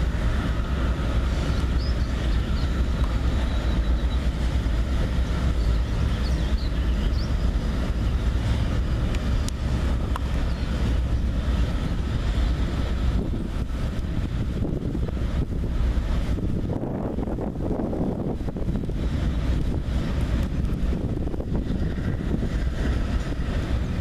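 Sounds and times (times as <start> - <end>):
train wheels rumbling on bridge: 0.0 - 24.0.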